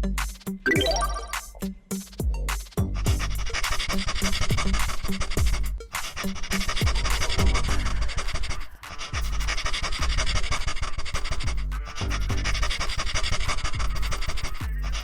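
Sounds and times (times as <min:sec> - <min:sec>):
electronic music with fast beat: 0:00.0 - 0:10.3, 0:11.2 - 0:15.0.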